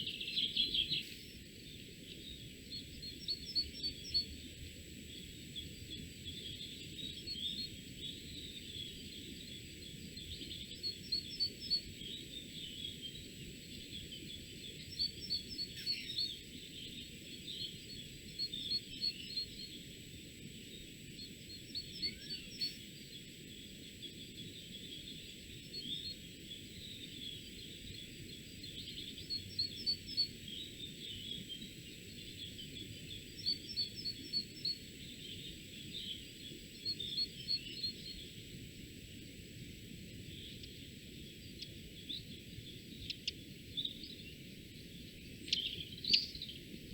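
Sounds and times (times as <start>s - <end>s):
low background hiss: 0.0s - 46.9s
songbirds singing: 0.0s - 46.9s.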